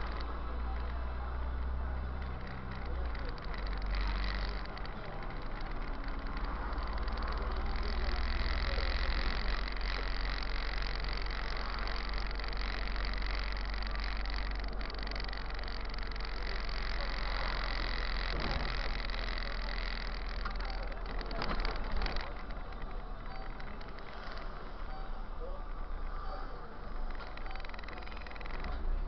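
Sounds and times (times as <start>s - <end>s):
bus engine drone: 0.0s - 29.0s
road and cabin noise: 0.0s - 29.0s.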